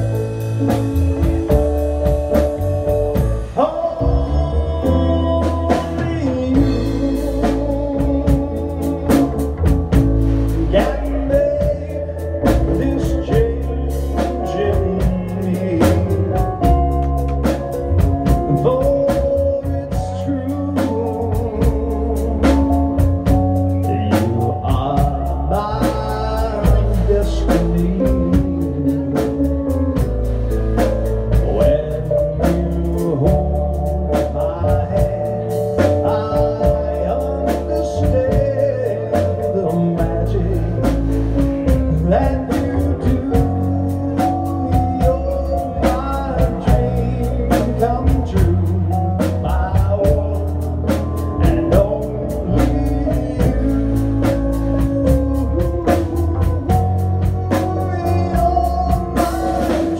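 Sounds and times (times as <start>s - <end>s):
drum kit beat: 0.0s - 59.9s
electric bass: 0.0s - 59.9s
keyboard: 0.0s - 59.9s.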